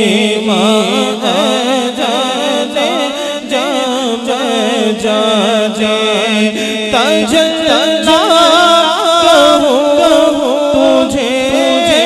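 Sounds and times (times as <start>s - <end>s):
man singing through microphone: 0.0s - 12.0s.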